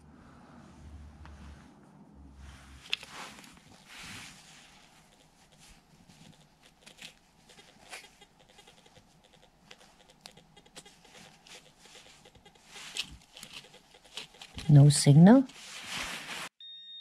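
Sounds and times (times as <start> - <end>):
fingers rubbing soil off coin: 2.9 - 16.5.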